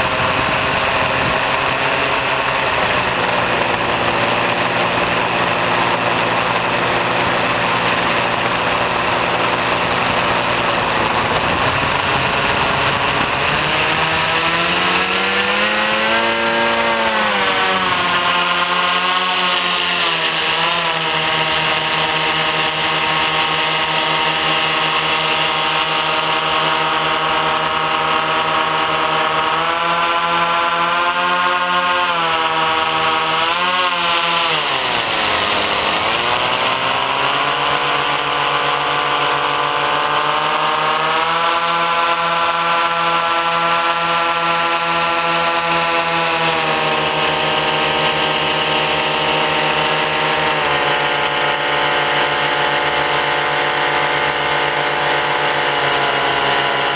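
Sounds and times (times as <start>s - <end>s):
propeller motors buzzing: 0.0s - 56.9s.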